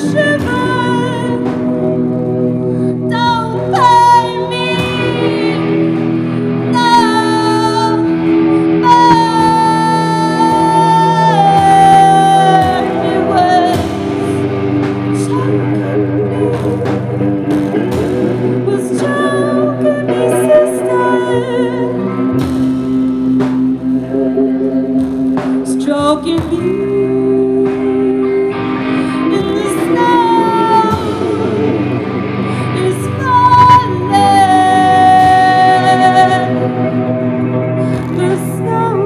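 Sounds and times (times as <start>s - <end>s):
electric guitars: 0.0s - 39.0s.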